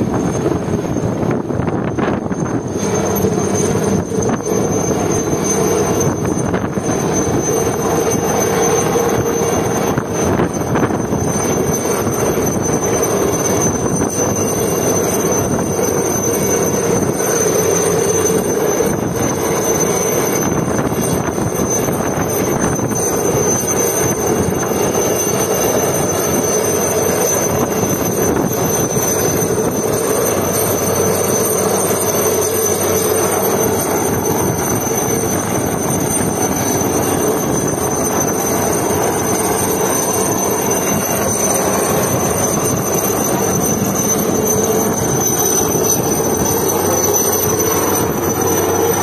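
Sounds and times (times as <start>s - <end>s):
helicopter rotor and engine roar: 0.0s - 49.0s.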